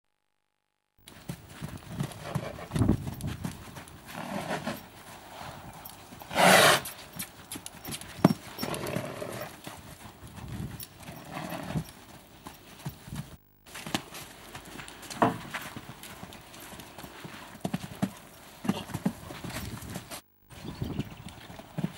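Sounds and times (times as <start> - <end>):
hoofbeats cantering on sand: 1.1 - 21.9.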